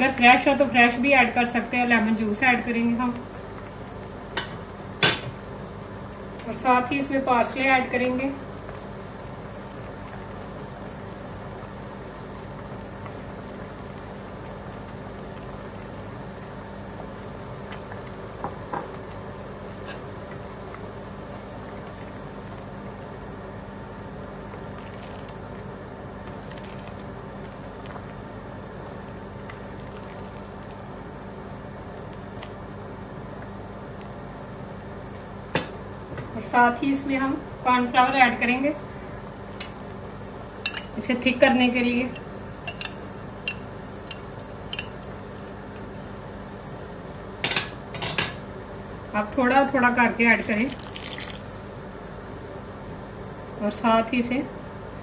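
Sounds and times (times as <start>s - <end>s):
soup bubbling: 0.1s - 36.1s, 37.1s - 49.1s, 50.2s - 53.5s.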